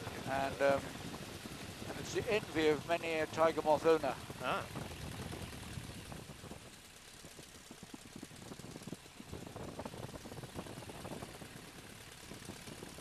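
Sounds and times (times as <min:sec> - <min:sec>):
propeller plane engine idling: 0:00.0 - 0:13.0.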